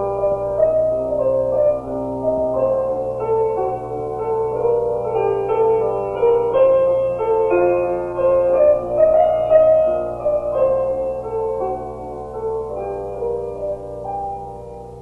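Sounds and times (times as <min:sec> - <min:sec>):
slow gentle solo piano: 0:00.0 - 0:15.0.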